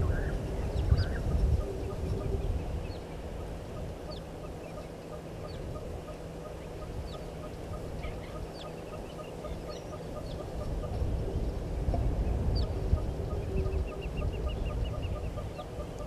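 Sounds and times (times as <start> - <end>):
birds chirping: 0.0 - 16.0
low steady rumble: 0.0 - 16.0.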